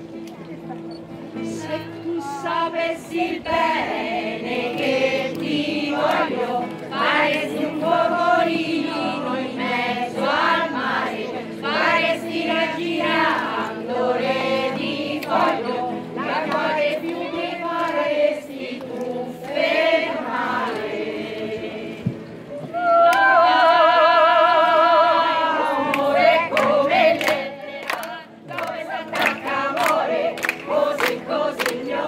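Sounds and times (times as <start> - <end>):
women's choir singing: 1.4 - 32.0.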